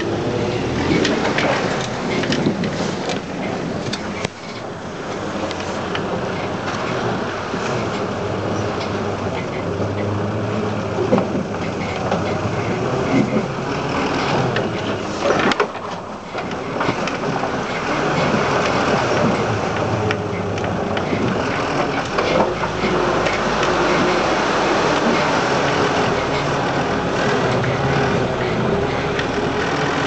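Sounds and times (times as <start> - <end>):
petrol engine running under load: 0.0 - 30.0.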